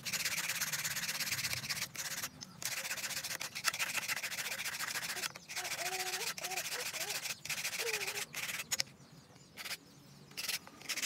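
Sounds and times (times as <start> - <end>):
sandpaper rubbing wood: 0.0 - 8.8, 10.4 - 11.0.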